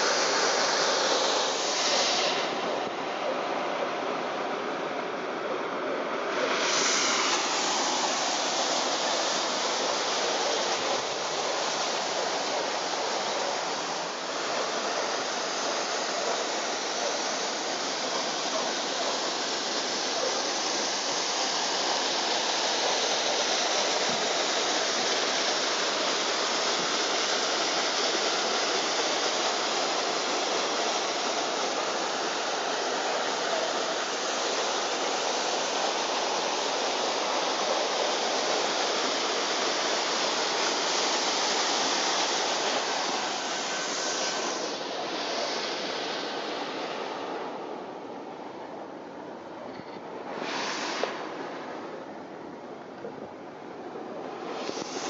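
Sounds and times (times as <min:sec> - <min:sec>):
motorcycle engine idling hiss: 0:00.0 - 0:05.4, 0:06.1 - 0:48.3, 0:50.2 - 0:52.3, 0:54.3 - 0:55.0.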